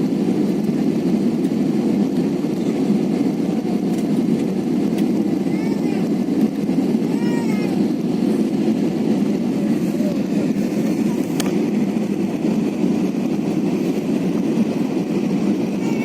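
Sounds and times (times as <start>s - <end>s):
jet cabin engine rumble: 0.0s - 16.0s.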